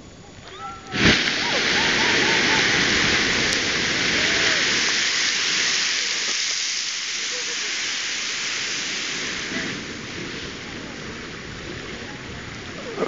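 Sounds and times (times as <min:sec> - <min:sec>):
geyser spray hissing: 0:00.6 - 0:13.0.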